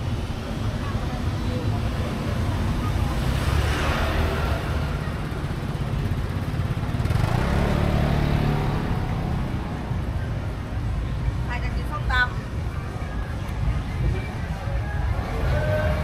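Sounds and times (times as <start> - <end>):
engine hum: 0.0 - 16.0
steady low traffic rumble: 0.0 - 16.0
vehicles passing: 0.0 - 16.0.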